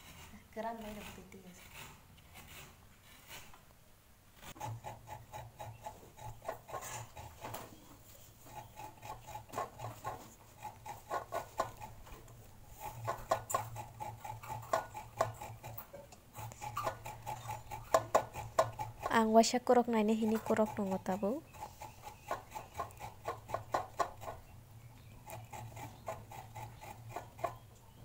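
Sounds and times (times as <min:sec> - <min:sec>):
coconut rasping on metal grater: 0:00.0 - 0:03.6, 0:04.4 - 0:28.0.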